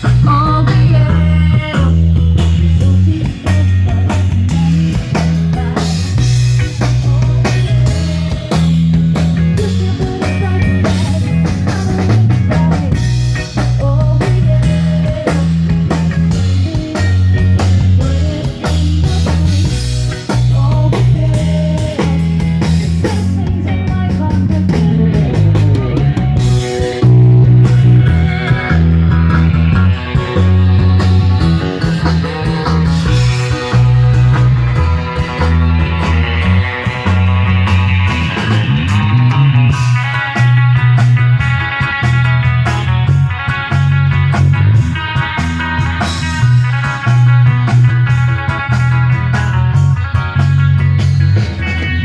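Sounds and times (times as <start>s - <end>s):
bass line: 0.0s - 52.0s
drum kit: 0.0s - 52.0s
electric guitar: 0.0s - 52.0s.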